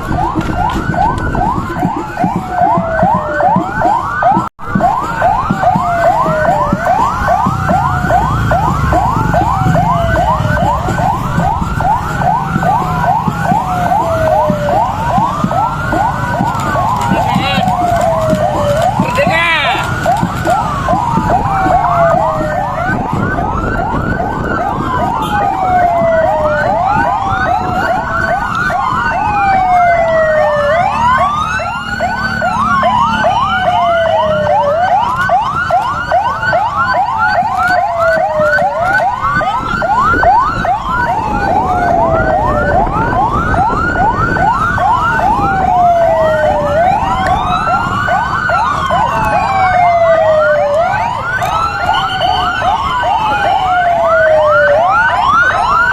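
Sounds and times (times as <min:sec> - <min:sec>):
fast siren yelp: 0:00.0 - 0:55.9
siren wail: 0:00.0 - 0:55.9.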